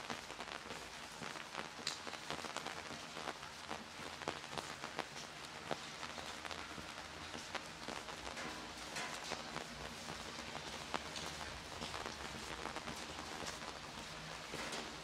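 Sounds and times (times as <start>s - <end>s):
light rain on wet paving: 0.0s - 15.0s.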